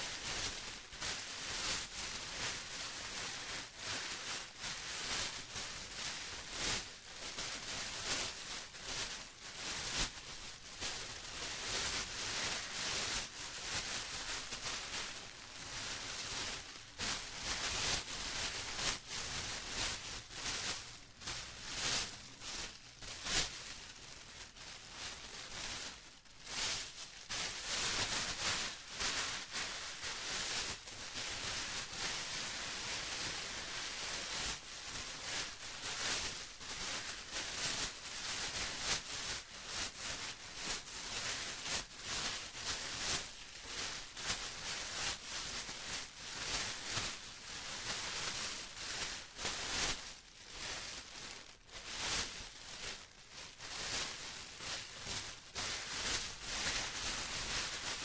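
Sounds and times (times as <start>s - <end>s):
plastic crinkling: 0.0s - 58.0s.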